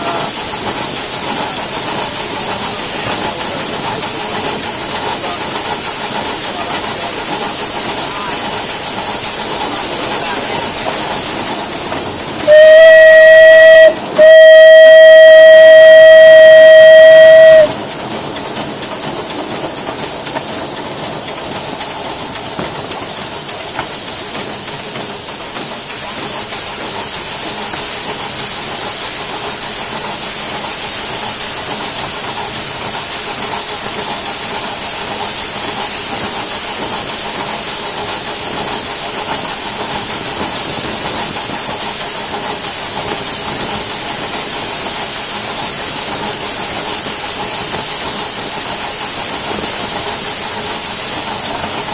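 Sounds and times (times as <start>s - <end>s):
steam hissing from locomotive: 0.0s - 51.9s.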